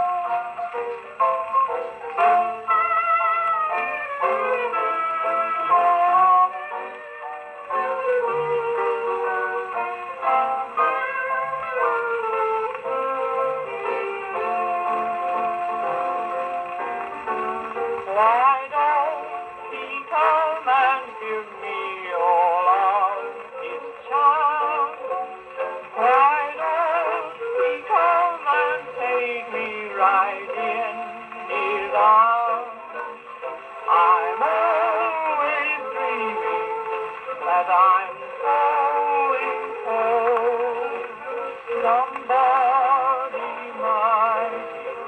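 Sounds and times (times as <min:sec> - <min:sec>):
gramophone record music: 0:00.0 - 0:45.0.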